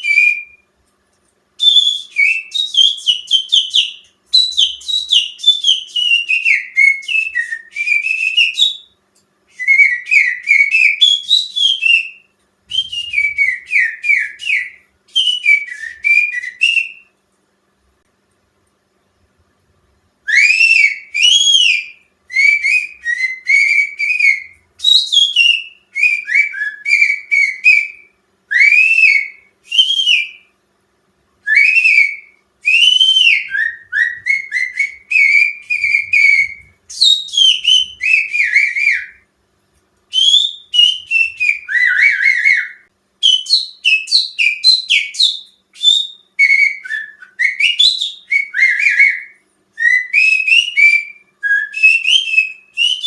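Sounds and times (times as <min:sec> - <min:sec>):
person finger-whistling birdsong: 0:00.0 - 0:00.7, 0:01.6 - 0:17.1, 0:20.3 - 0:30.5, 0:31.5 - 0:39.3, 0:40.1 - 0:53.0.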